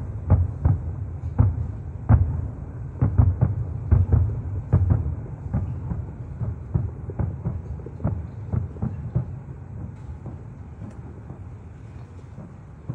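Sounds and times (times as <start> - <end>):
distant fireworks booming: 0.0 - 12.9
low rumble: 0.0 - 12.9.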